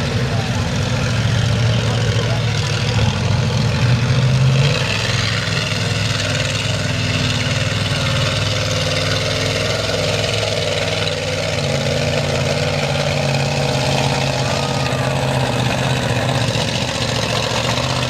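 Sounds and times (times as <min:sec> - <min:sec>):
truck engine running at low revs: 0:00.0 - 0:18.0.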